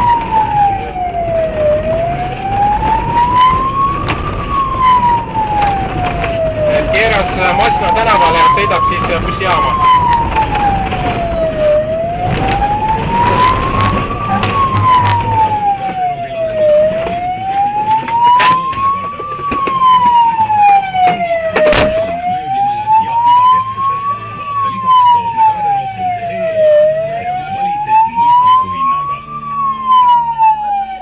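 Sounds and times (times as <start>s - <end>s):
emergency siren wailing: 0.0s - 31.0s
higher siren: 0.0s - 31.0s
traffic noise: 0.0s - 31.0s.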